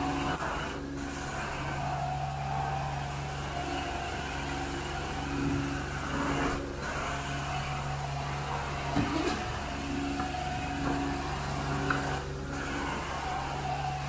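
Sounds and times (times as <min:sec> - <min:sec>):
extraction machine hum: 0:00.0 - 0:14.0
vacuum suction hiss: 0:00.0 - 0:14.0.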